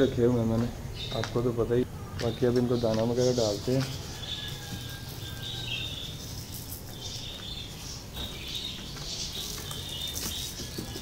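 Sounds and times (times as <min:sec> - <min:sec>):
birds chirping: 0:00.0 - 0:11.0
low background noise: 0:00.0 - 0:11.0.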